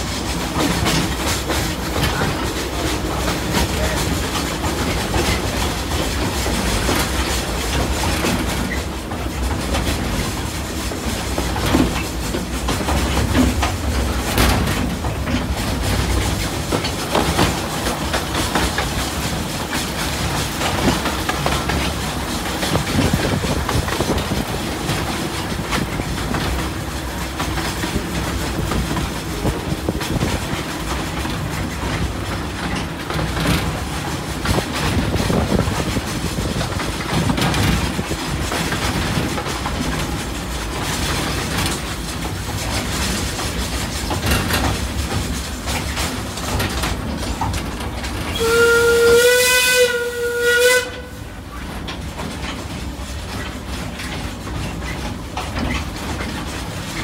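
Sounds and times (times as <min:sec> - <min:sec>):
carriages rattling: 0:00.0 - 0:57.0
wheels clattering over rail joints: 0:00.0 - 0:57.0.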